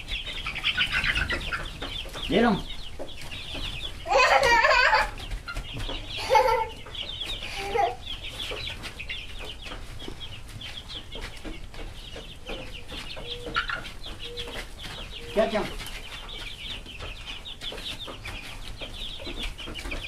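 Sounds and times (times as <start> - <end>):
chickens clucking and squawking: 0.0 - 20.0.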